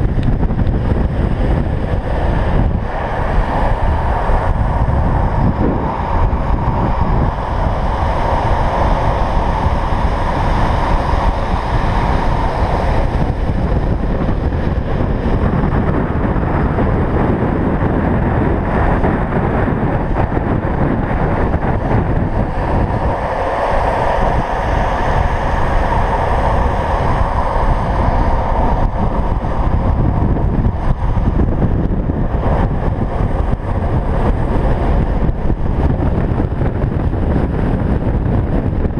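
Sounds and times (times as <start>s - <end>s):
longboard wheels rolling on asphalt: 0.0s - 38.9s
wind blasting microphone: 0.0s - 38.9s.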